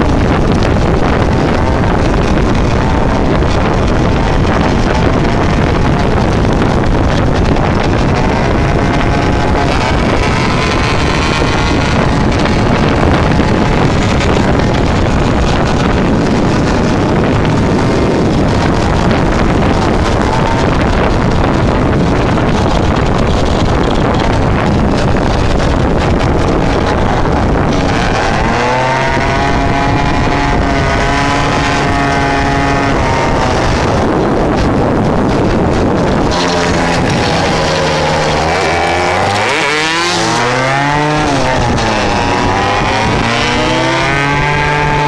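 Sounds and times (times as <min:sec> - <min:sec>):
small motorbike engine: 0:00.0 - 0:45.0
wind buffeting microphone: 0:00.0 - 0:45.0.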